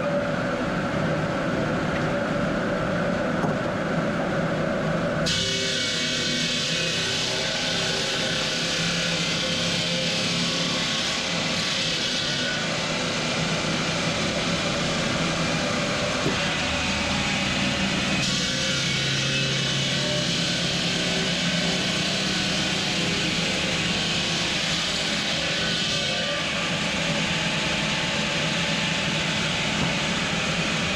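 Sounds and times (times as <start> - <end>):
machinery low hum: 0.0 - 30.9.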